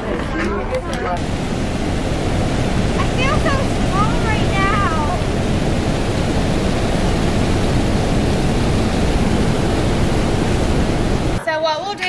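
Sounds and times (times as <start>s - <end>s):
water rushing over dam: 1.1s - 11.4s.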